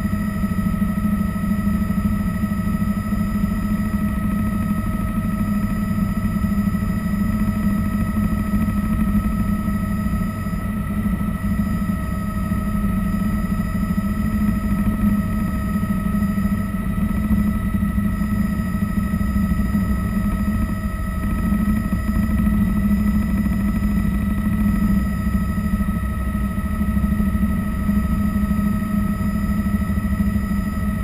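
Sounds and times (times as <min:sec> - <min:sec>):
helicopter engine and rotor: 0:00.0 - 0:31.0.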